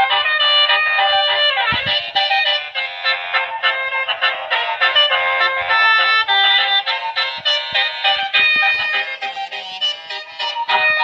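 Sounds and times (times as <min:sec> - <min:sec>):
bus air horn playing melody: 0:00.0 - 0:11.0.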